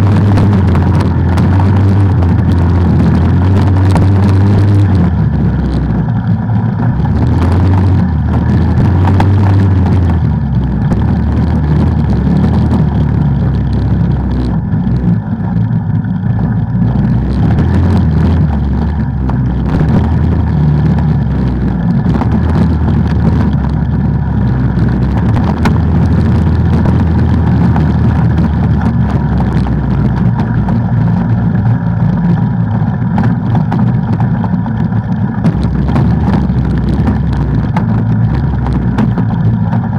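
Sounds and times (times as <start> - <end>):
rushing noise: 0.0 - 15.8, 16.4 - 39.9
atv engine revving: 0.0 - 39.9
rattle: 0.0 - 39.9.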